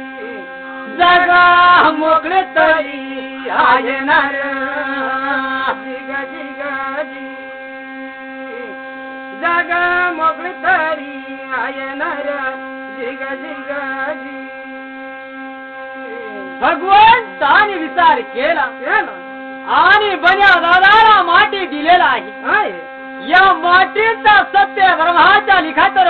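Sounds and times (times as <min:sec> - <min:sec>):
rubbed brass plate drone: 0:00.0 - 0:26.0.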